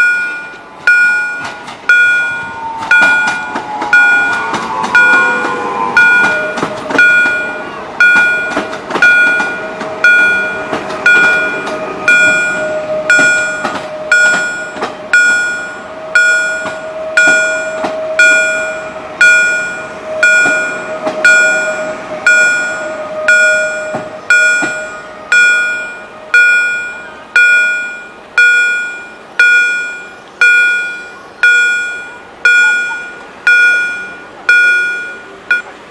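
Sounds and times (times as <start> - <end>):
railroad crossing bells ringing: 0.0 - 35.9
steady hum: 0.0 - 35.9
train clattering: 0.0 - 35.9.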